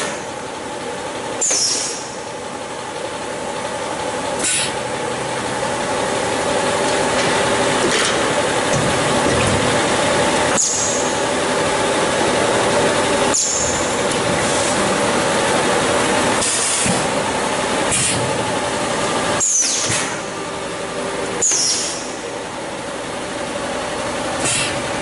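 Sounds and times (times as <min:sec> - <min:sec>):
machine mechanical hum: 0:00.0 - 0:25.0.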